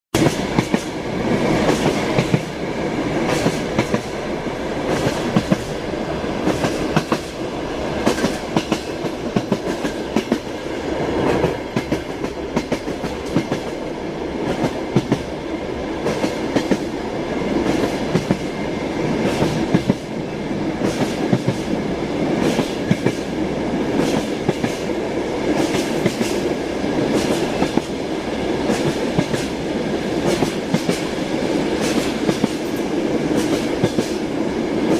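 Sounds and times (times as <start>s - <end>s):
train carriage rumbling: 0.2s - 34.9s
train wheels clacking on rails: 0.2s - 34.9s.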